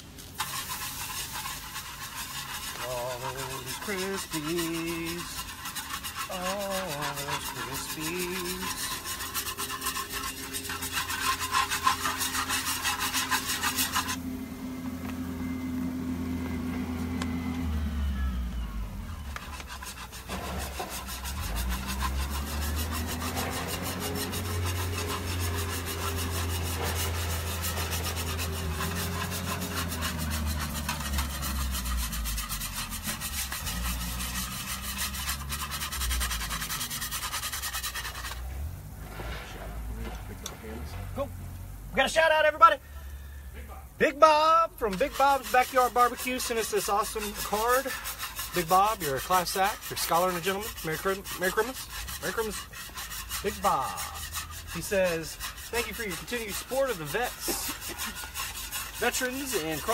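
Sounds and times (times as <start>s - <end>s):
utensil scraping a cooking pan: 0.0s - 14.2s, 19.0s - 41.2s, 44.1s - 59.9s
low steady rumble: 0.0s - 59.9s.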